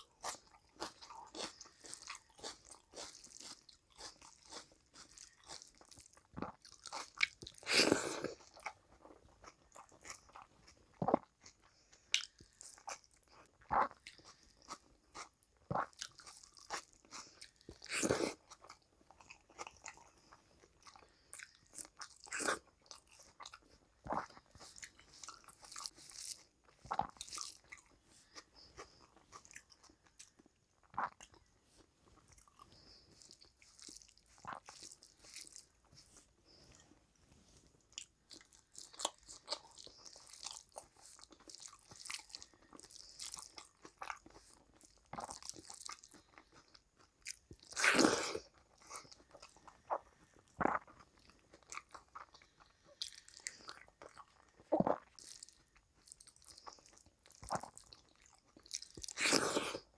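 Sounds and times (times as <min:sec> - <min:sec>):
chewing and lip smacking: 0:00.0 - 0:59.9.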